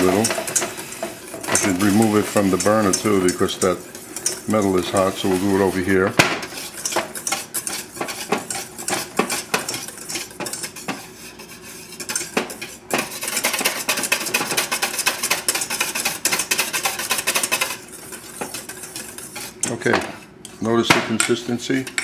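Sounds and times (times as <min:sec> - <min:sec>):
whisk beating in metal bowl: 0:00.0 - 0:22.0.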